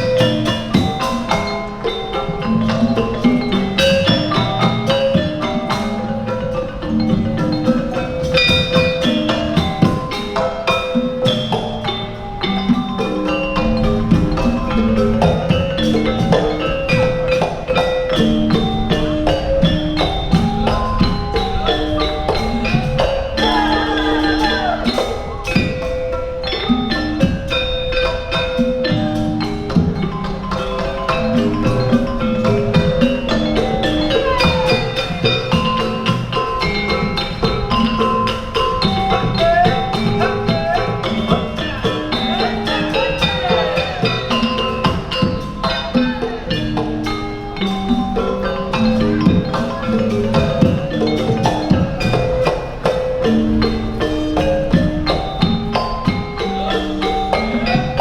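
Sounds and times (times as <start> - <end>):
gamelan ensemble playing: 0.0 - 58.0.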